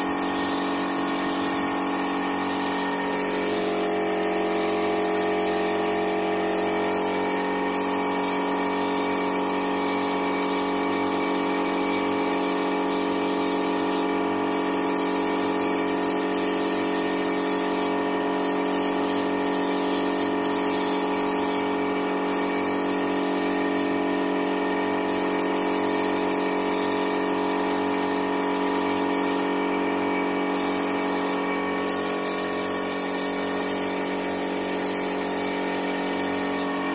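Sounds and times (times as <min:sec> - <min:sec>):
air compressor hum: 0:00.0 - 0:36.9
paint spray gun hissing: 0:00.0 - 0:36.9.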